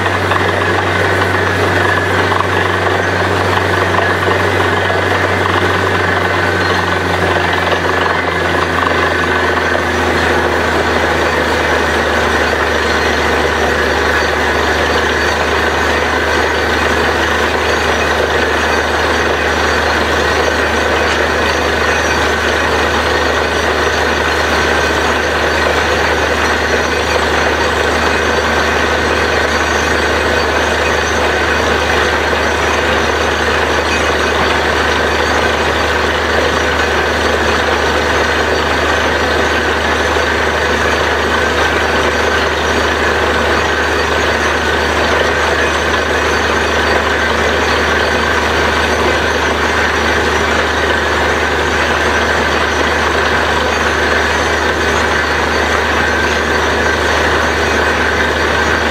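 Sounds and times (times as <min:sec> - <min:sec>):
drilling rig engine and compressor drone: 0:00.0 - 0:58.9.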